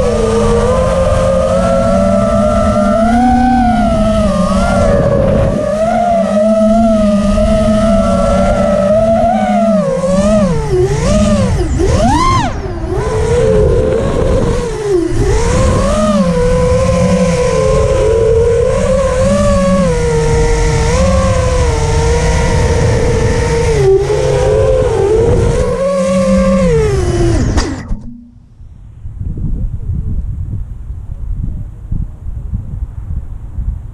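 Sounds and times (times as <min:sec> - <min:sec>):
quadcopter motors whining: 0:00.0 - 0:28.5.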